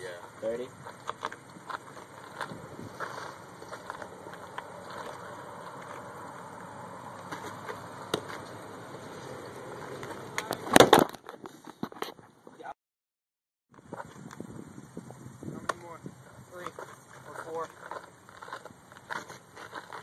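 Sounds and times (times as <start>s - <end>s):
outdoor background noise: 0.0s - 12.8s, 13.7s - 20.0s.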